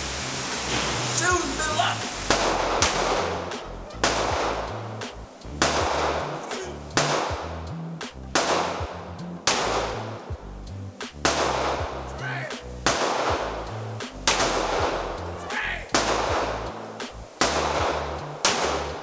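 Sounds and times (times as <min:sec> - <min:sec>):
music with bass line: 0:00.0 - 0:19.0.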